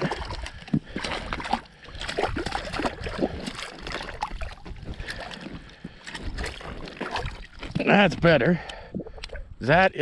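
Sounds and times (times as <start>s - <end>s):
water splashing: 0.0s - 9.5s.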